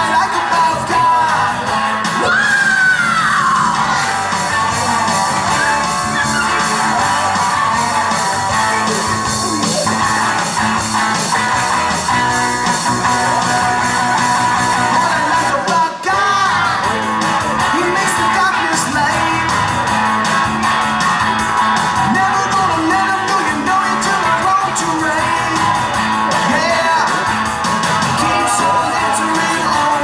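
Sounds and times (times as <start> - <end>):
person singing: 0.0 - 20.0, 22.0 - 30.0
guitar: 0.0 - 30.0
steady beat: 3.4 - 30.0.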